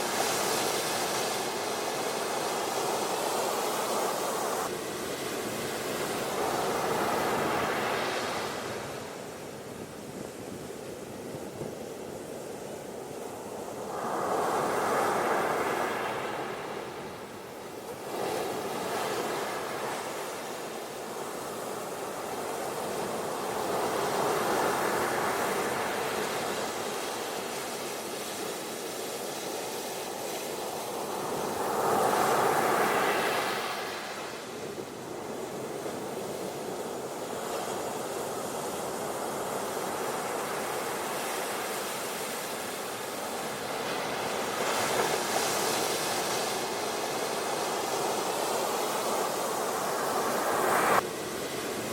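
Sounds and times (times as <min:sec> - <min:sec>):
ocean waves breaking on beach: 0:00.0 - 0:51.9.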